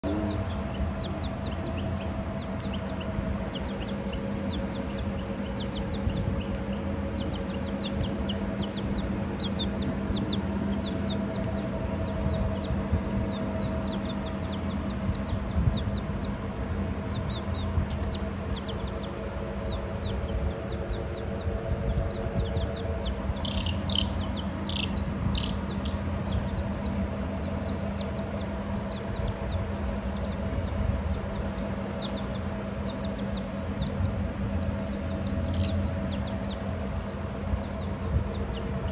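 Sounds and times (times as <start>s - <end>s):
chicks peeping: 0.0s - 38.9s
low hum: 0.0s - 38.9s.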